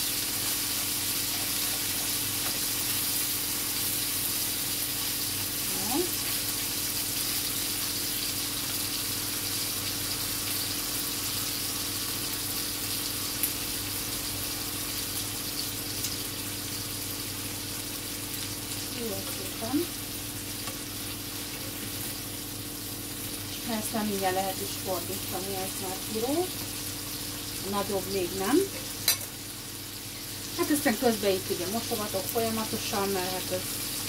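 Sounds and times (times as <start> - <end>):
chicken sizzling in a frying pan: 0.0 - 34.0
oven and washing machine hum: 0.0 - 34.0.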